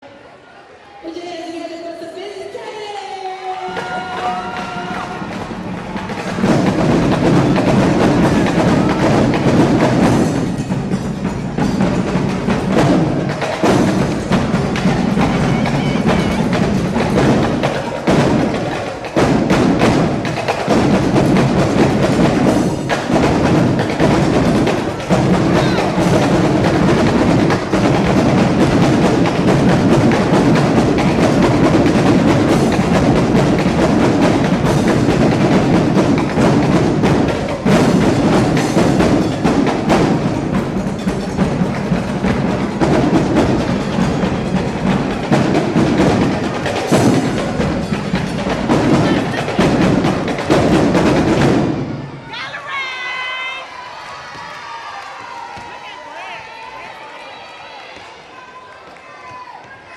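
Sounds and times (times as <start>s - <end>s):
snare and bass drums cadence: 3.8s - 52.1s.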